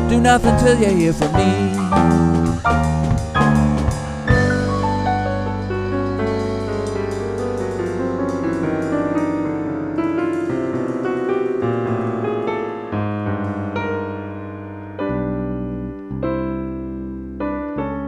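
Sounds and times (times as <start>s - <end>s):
jazz piano: 0.0s - 18.0s.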